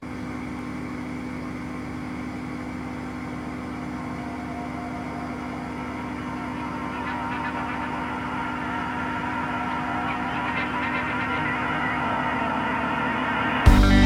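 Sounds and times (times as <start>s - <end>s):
engine low drone: 0.3s - 14.0s.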